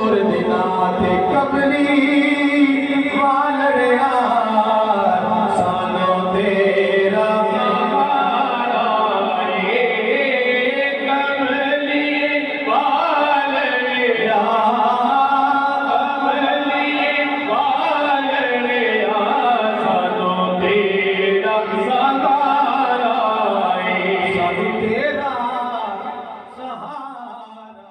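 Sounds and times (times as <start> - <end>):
man singing unaccompanied: 0.0 - 27.9.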